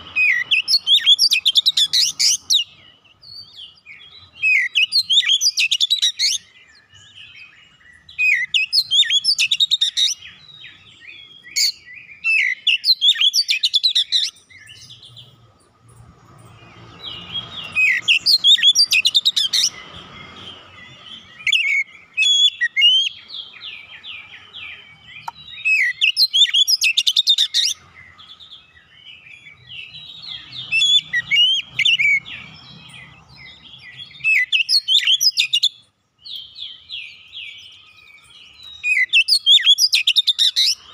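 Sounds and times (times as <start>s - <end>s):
bird singing whistles and chirps: 0.0s - 15.4s, 16.4s - 40.9s.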